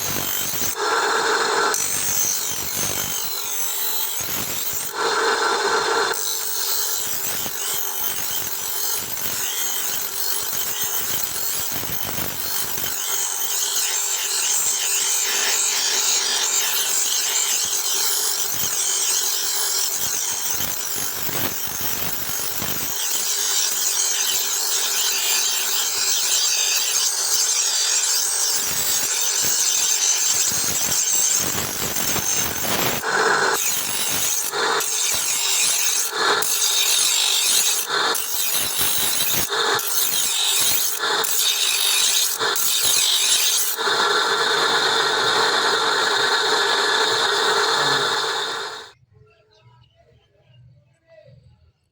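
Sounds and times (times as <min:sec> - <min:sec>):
grinder grinding steel: 0:00.0 - 0:49.0.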